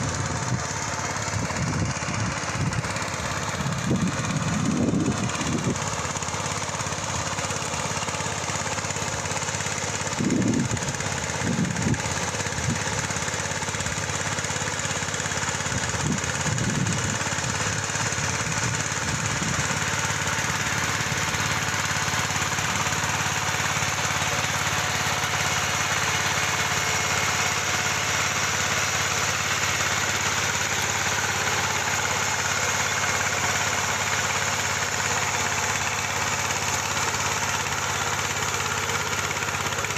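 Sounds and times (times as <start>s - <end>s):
ploughing machine engine running: 0.0s - 39.9s.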